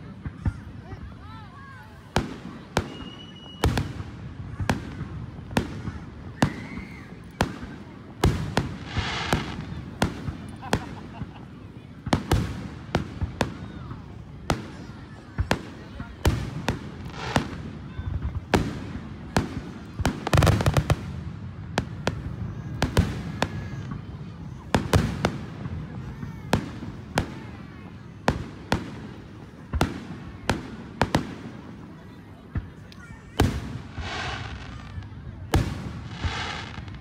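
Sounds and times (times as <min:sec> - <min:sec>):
fireworks bursting with sharp bangs: 0:00.0 - 0:37.0.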